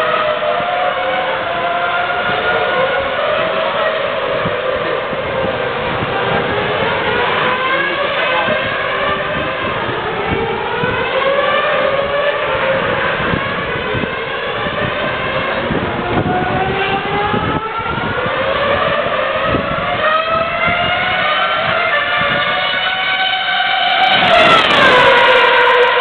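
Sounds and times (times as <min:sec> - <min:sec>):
racing car engines accelerating: 0:00.0 - 0:26.0.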